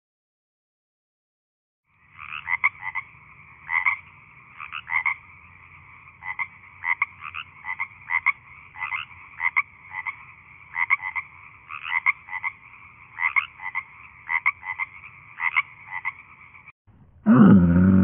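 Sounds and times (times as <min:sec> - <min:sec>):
frog croaking: 0:01.9 - 0:16.7.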